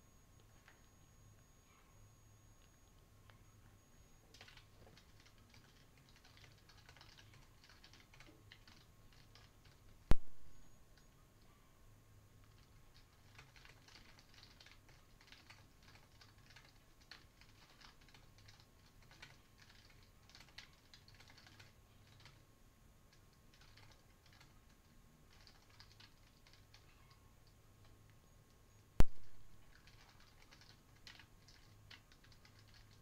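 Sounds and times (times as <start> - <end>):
faint typing on a keyboard: 0.0 - 33.0.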